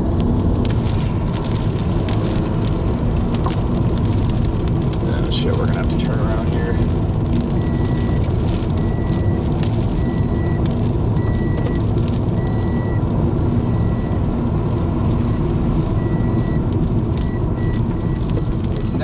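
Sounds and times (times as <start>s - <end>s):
car engine rumble from inside: 0.0s - 19.0s
road noise: 0.0s - 19.0s.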